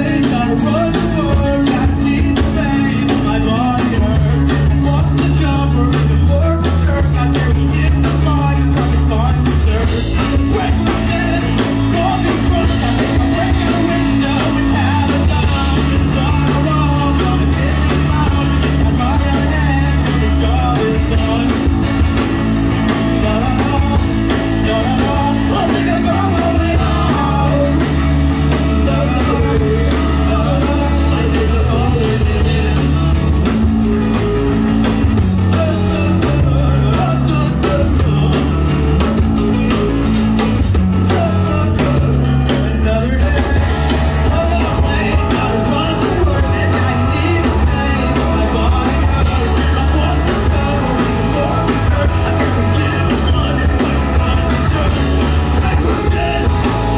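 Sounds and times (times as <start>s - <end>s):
live rock band with singing: 0.0s - 56.9s.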